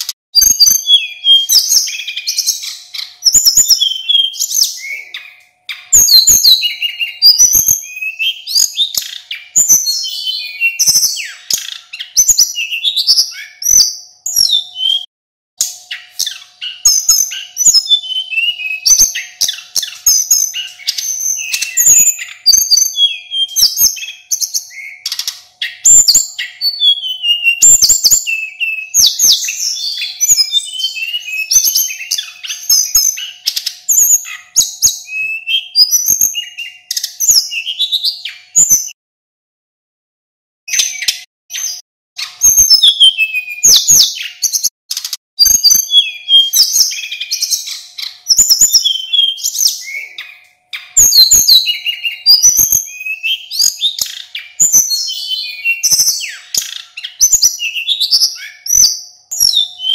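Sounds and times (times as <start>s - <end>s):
flycatcher singing whistled phrases: 0.0s - 39.0s, 40.7s - 59.9s.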